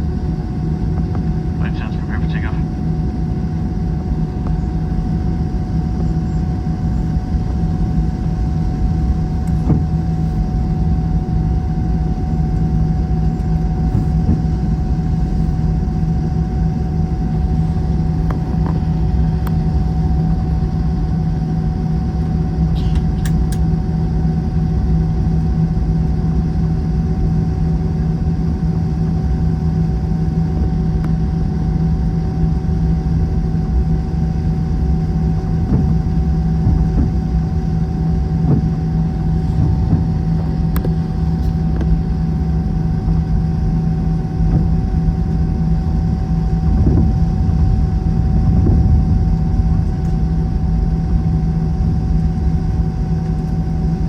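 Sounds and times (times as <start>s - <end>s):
low rumble: 0.0s - 24.6s, 33.2s - 54.0s
constant hum: 0.0s - 54.0s
jet engine cabin drone: 0.0s - 54.0s.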